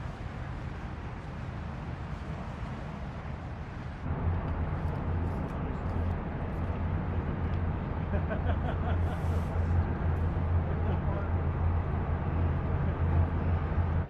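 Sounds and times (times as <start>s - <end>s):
ship engine drone: 0.0s - 14.0s.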